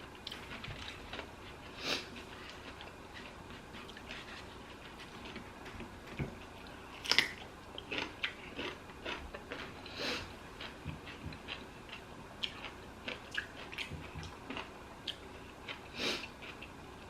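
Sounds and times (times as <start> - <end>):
wet chewing and smacking: 0.2 - 9.9, 10.6 - 16.7.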